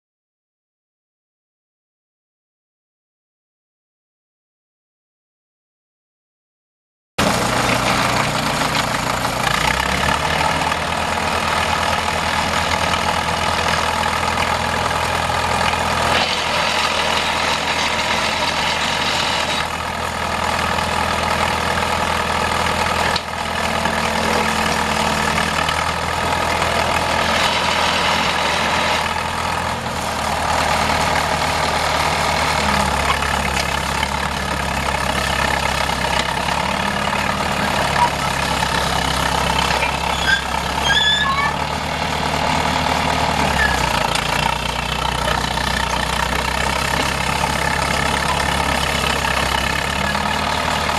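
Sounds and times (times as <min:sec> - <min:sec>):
dozer diesel engine running: 0:07.2 - 0:50.9.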